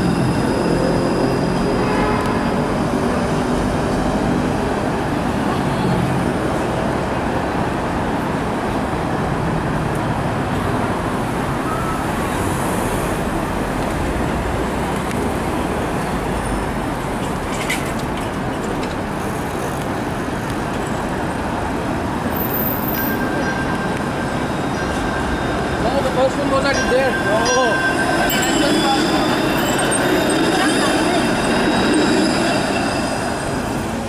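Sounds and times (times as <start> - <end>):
street traffic noise: 0.0 - 34.0
streetcars approaching on tracks: 0.0 - 34.0.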